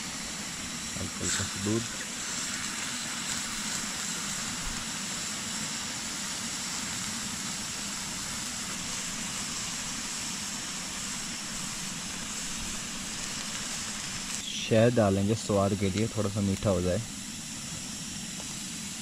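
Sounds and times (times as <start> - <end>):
camping stove hissing: 0.0 - 19.0
milk sizzling and bubbling: 0.0 - 19.0.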